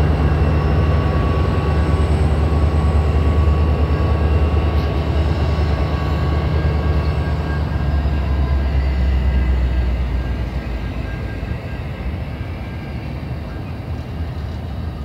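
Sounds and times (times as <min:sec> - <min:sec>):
diesel locomotive engine drone: 0:00.0 - 0:15.0
train wheels rumbling on rails: 0:00.0 - 0:15.0.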